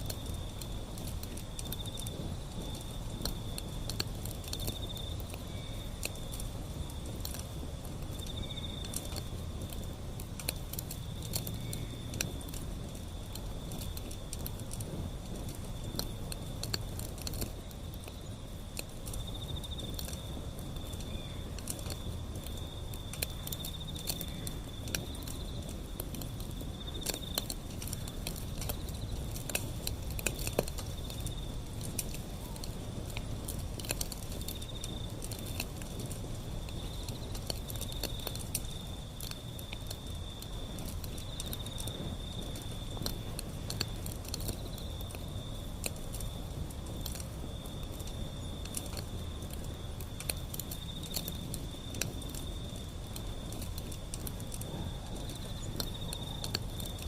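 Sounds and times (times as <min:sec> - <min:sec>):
crickets chirping: 0:00.0 - 0:57.0
low rumble of burning: 0:00.0 - 0:57.0
wood fire crackling and popping: 0:00.0 - 0:57.0.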